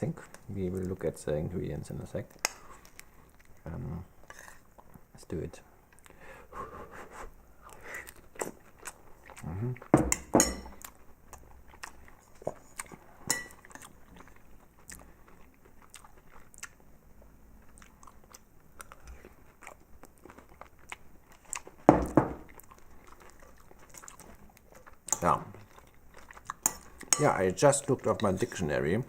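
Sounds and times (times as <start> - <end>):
person chewing food: 2.3 - 5.1, 7.5 - 28.7.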